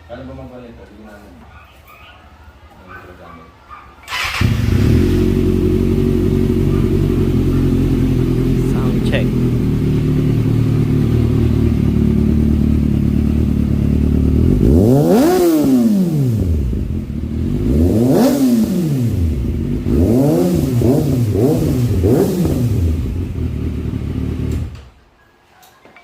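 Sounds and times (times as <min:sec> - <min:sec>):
motorcycle engine idling and revving: 0:04.1 - 0:25.0.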